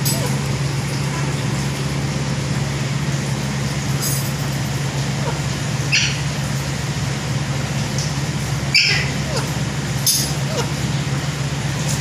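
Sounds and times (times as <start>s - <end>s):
fan humming and rushing air: 0.0s - 12.0s.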